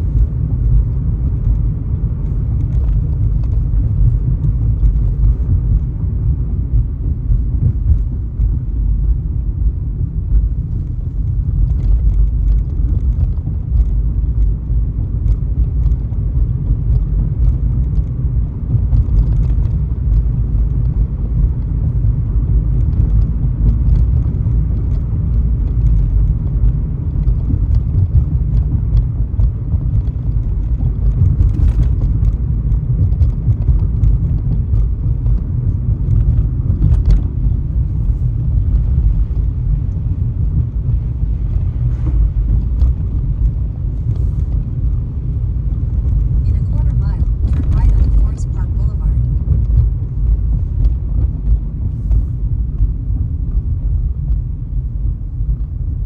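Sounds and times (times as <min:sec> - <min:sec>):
car driving on highway: 0:00.0 - 0:56.0.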